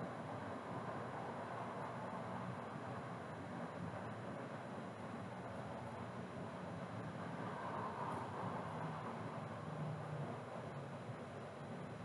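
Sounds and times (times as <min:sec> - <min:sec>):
low background hiss and rumble: 0:00.0 - 0:12.0.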